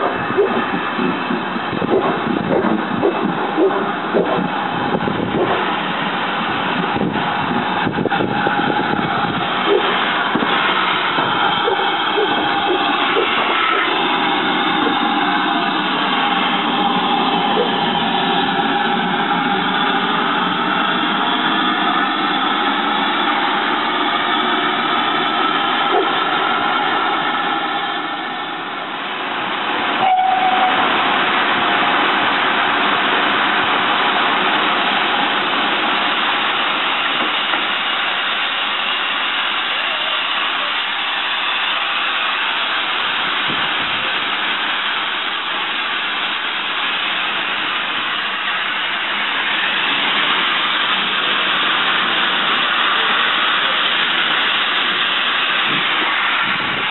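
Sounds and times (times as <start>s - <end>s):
rush of steam and rail noise: 0.0s - 56.9s
steam locomotive hissing: 0.0s - 56.9s.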